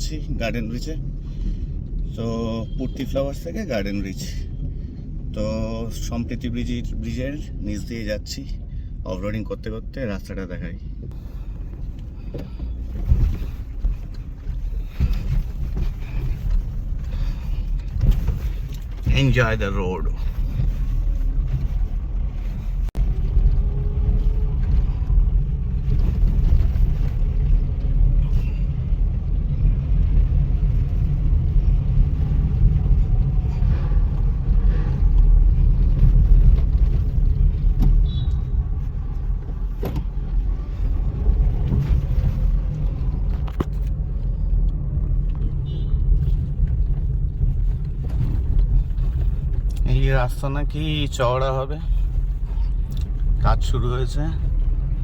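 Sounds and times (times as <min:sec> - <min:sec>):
road rumble inside car: 0:00.0 - 0:55.0.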